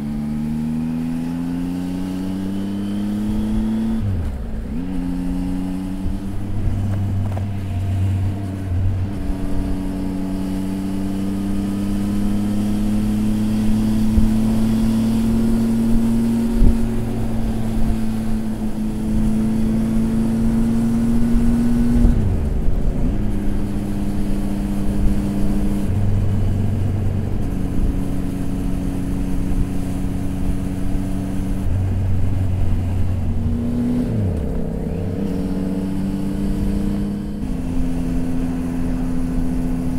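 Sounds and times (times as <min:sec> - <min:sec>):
motorcycle engine riding: 0:00.0 - 0:39.9
road noise: 0:00.0 - 0:39.9.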